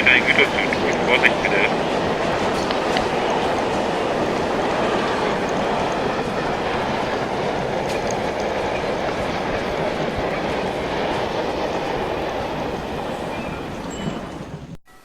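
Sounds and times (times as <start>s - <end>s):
train wheels rumbling on track: 0.0s - 14.8s.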